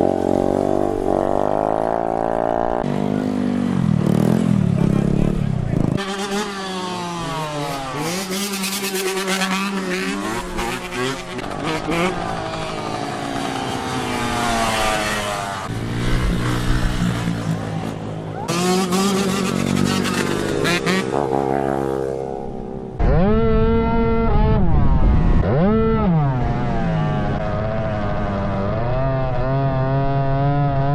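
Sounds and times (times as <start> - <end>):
motorbike engines revving: 0.0 - 30.9.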